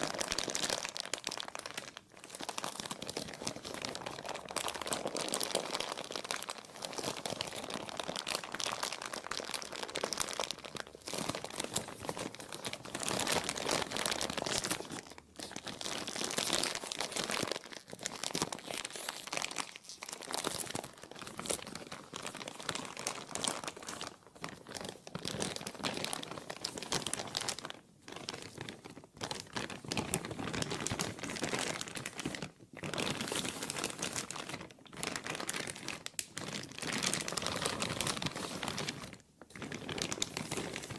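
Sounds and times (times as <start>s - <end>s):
plastic crumpling and crinkling: 0.0s - 40.9s.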